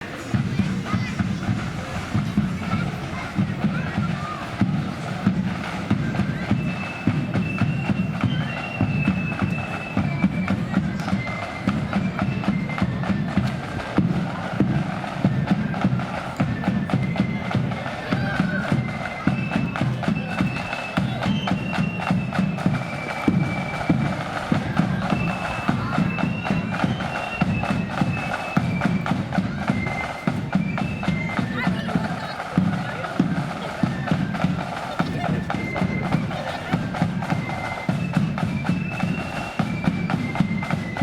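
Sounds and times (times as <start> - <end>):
flutes playing in unison: 0.0 - 41.0
snare drums: 0.0 - 41.0.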